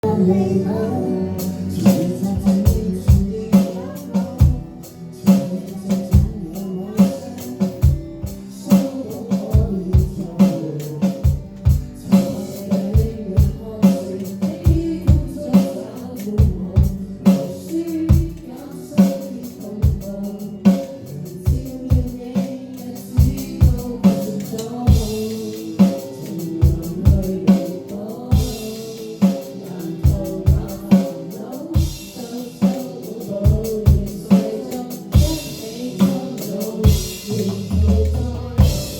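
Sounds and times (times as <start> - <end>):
song with drums and singing: 0.0 - 38.9.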